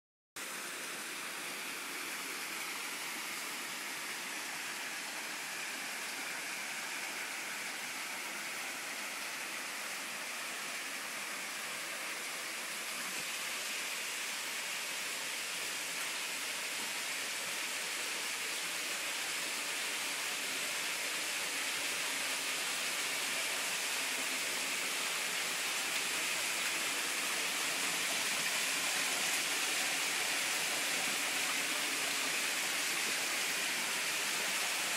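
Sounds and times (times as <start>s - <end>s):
waterfall and stream rushing: 0.4s - 34.9s.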